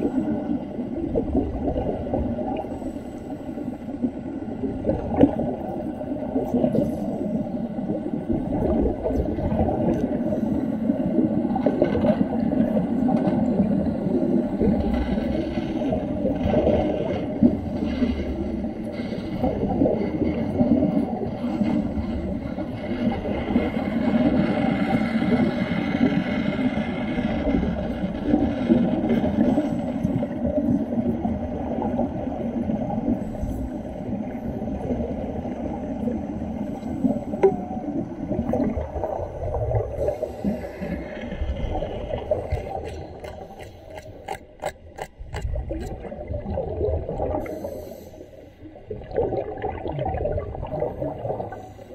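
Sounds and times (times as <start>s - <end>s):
underwater bubbling and rumbling: 0.0s - 51.9s.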